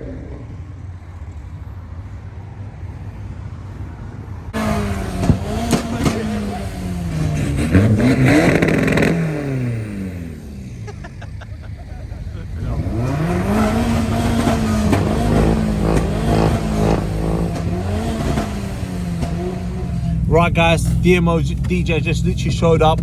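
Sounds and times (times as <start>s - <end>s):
car engine revving: 0.0s - 23.0s
exhaust pops: 4.5s - 23.0s.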